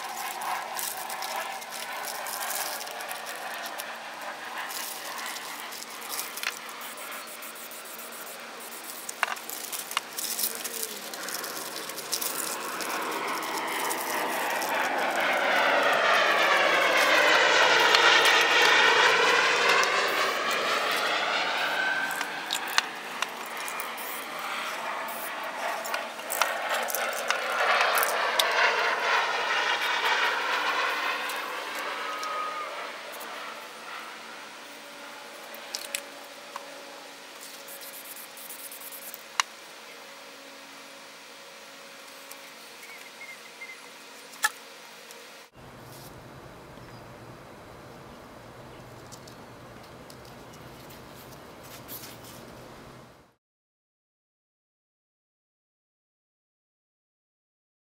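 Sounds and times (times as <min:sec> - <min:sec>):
aircraft passing overhead: 0:00.0 - 0:53.4.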